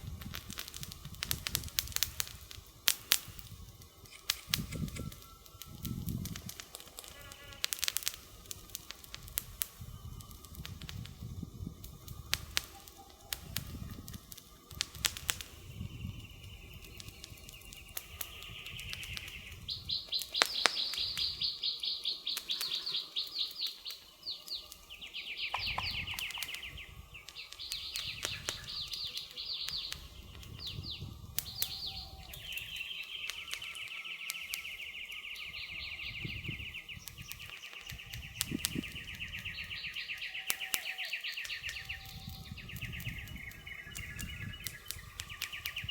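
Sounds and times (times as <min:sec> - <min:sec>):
birds singing fast trills: 0:00.0 - 0:45.9
wood fire crackling: 0:00.0 - 0:45.9.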